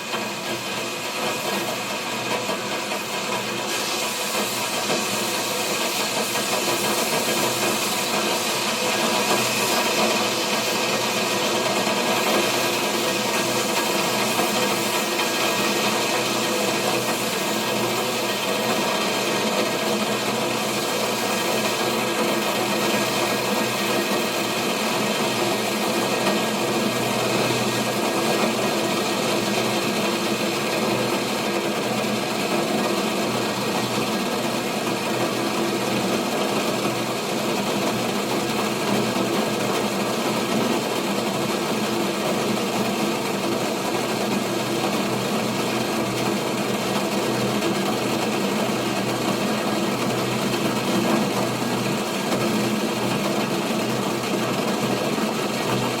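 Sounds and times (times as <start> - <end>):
water bubbling on a stove: 0.0 - 56.0.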